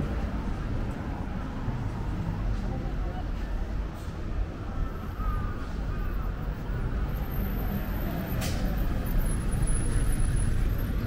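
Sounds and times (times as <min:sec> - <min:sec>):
vehicles running past: 0:00.0 - 0:11.0.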